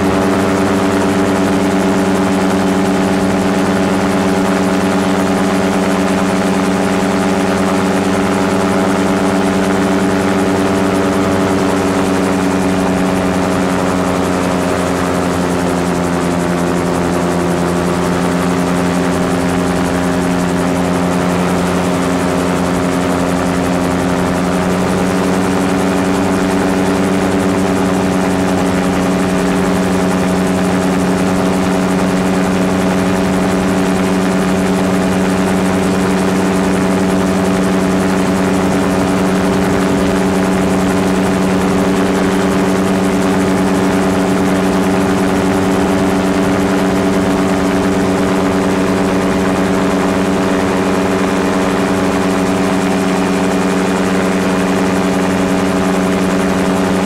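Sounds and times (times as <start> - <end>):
aircraft engine and propeller hum: 0.0 - 57.0.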